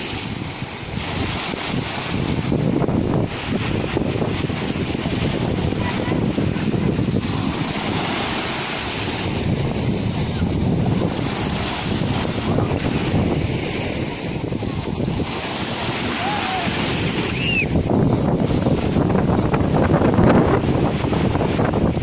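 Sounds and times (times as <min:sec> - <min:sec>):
sea waves breaking on shore: 0:00.0 - 0:22.0
wind buffeting microphone: 0:00.0 - 0:22.0.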